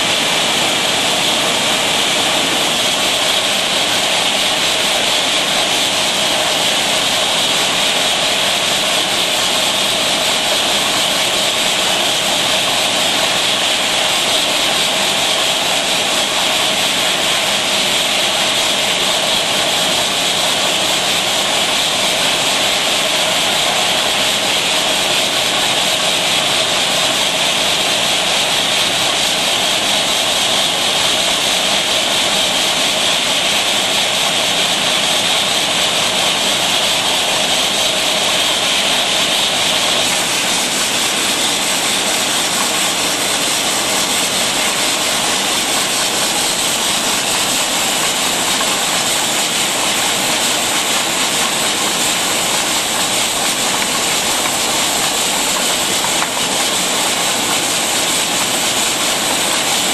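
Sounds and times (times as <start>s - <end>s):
bottle filling machine hiss and whir: 0.0s - 59.9s.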